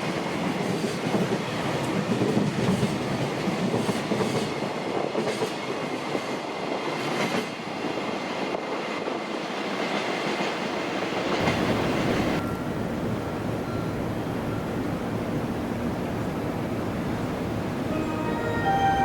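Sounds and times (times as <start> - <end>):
freight train passing: 0.0 - 19.0.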